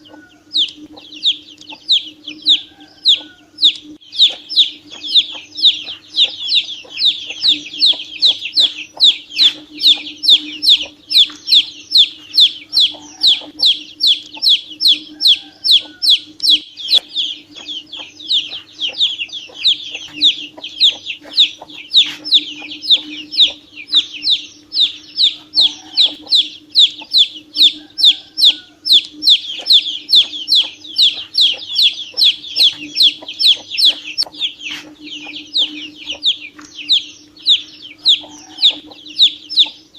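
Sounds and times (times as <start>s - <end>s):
chick peeping: 0.0s - 39.9s
faint low hum: 0.0s - 39.9s.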